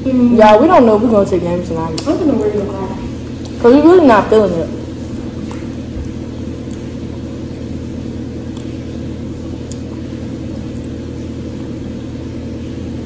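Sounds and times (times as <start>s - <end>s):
electrical appliance humming: 0.0s - 13.0s.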